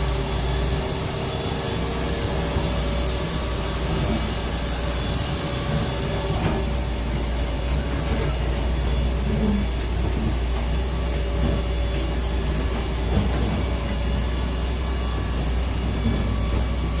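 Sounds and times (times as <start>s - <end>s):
woodworking machine humming: 0.0s - 17.0s.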